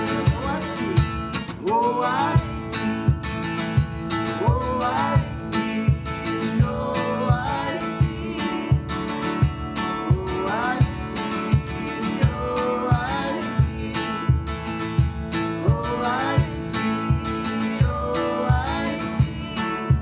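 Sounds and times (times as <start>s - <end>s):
country-style worship song with guitar: 0.0s - 20.0s.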